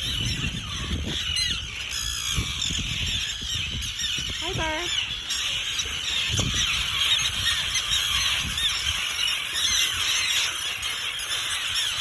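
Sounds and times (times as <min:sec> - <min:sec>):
terns calling: 0:00.0 - 0:12.0.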